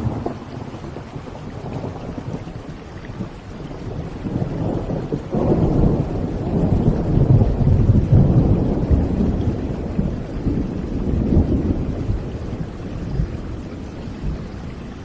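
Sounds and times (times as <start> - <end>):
rolling thunder: 0.0 - 15.0
steady rain: 0.0 - 15.0.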